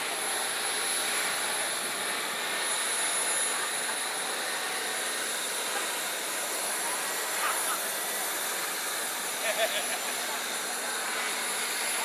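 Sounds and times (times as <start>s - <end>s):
jet engine high-pitched whine: 0.0s - 12.0s.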